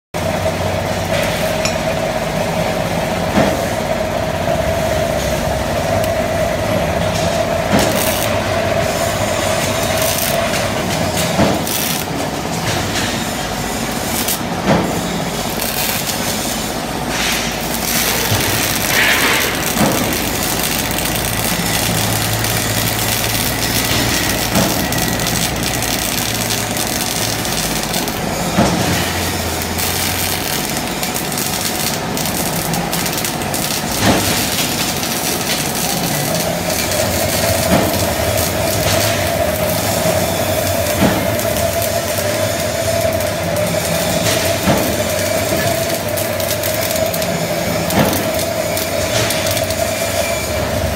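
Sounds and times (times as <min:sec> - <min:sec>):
machinery noise: 0:00.2 - 0:50.9
welding arc: 0:00.2 - 0:50.9.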